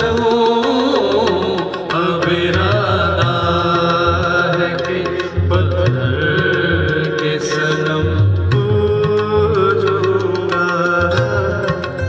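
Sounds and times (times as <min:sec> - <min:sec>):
hand percussion beat: 0:00.0 - 0:12.0
keyboard: 0:00.0 - 0:12.0
men singing: 0:00.0 - 0:12.0.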